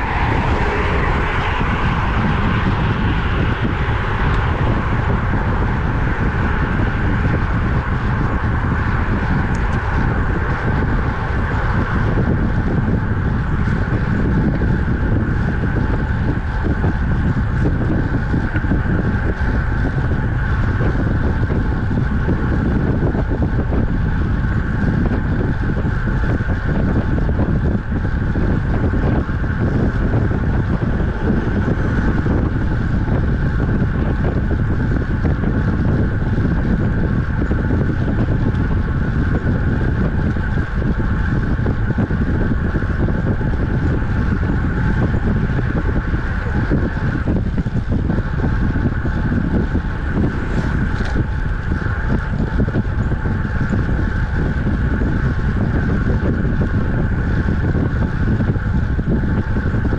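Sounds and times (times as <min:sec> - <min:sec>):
road noise rumble: 0:00.0 - 0:59.9
steady high hum: 0:00.0 - 0:59.9
wind rush on microphone: 0:00.0 - 0:59.9.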